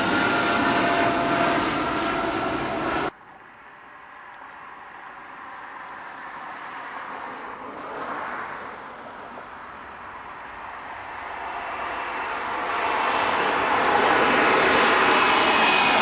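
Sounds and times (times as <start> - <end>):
jet airliner approaching: 0.0 - 16.0.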